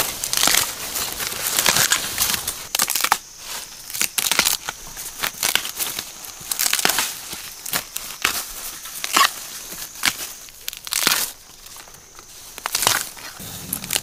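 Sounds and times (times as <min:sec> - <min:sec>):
dry bamboo sheaths crackling: 0:00.0 - 0:14.0.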